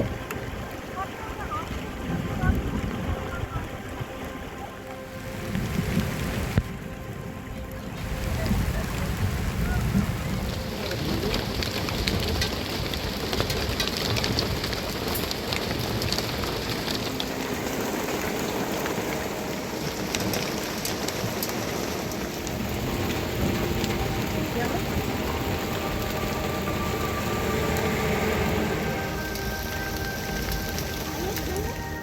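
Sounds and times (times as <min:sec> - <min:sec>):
rain pattering on surfaces: 0:00.0 - 0:32.0.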